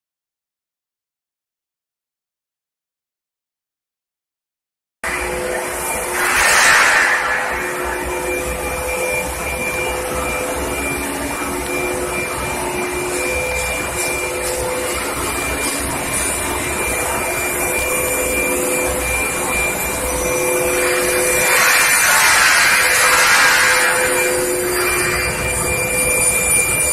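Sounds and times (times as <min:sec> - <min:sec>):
machine whirring hum: 0:05.0 - 0:26.9.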